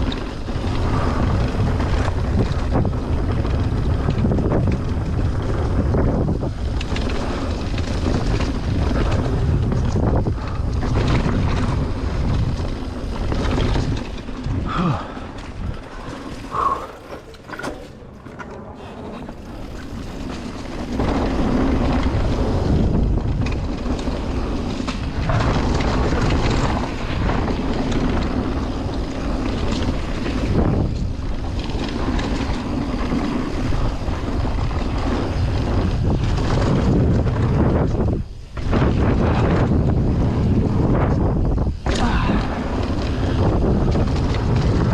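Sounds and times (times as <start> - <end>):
mountain bike rumbling on trail: 0.0 - 44.9
wind buffeting microphone: 0.0 - 44.9.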